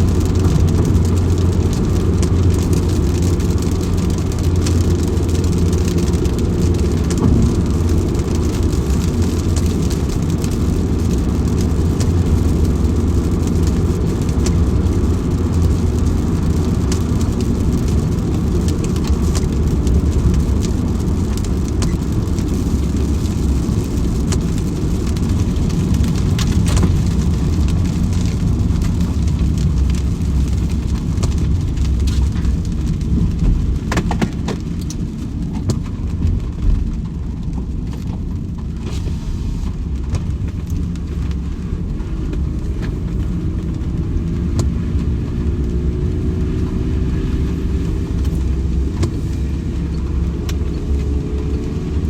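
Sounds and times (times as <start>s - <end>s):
low rumble: 0.0s - 52.0s
rain drops ticking: 0.0s - 52.0s.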